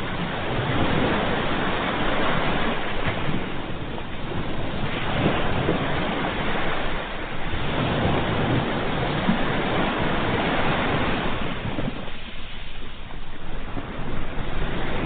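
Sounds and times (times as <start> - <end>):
ocean waves washing onto shore: 0.0 - 15.0.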